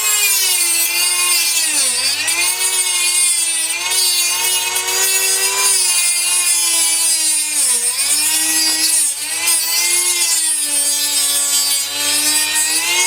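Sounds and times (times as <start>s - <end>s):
rotary tool grinding metal: 0.0s - 13.0s.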